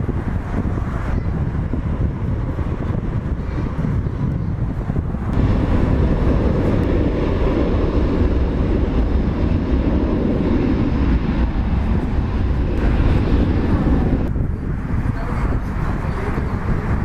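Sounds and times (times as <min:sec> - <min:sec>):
loud jet engine roar: 0:00.0 - 0:17.0.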